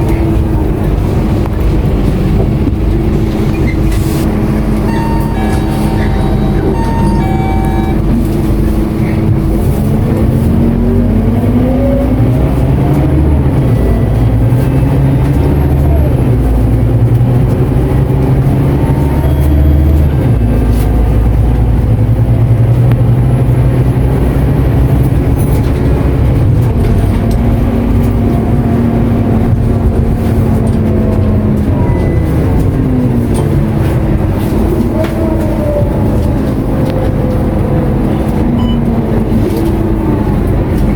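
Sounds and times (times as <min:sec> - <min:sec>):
bus diesel engine from inside: 0:00.0 - 0:40.9.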